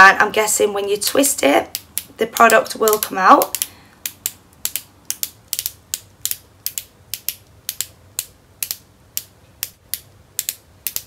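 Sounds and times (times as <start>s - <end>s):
lip pen ratchet clicking: 1.7s - 11.0s.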